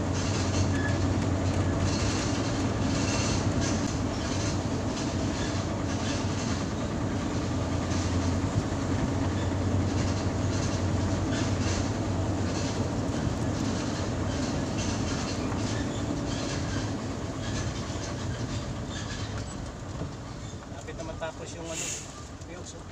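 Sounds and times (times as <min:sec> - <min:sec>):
road noise: 0:00.0 - 0:22.9
truck engine drone: 0:00.0 - 0:22.9.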